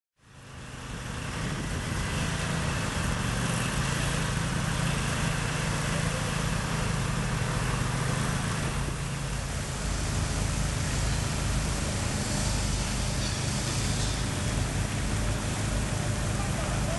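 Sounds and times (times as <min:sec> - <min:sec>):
diesel engine running: 0:00.2 - 0:16.9
outdoor noise: 0:00.2 - 0:16.9.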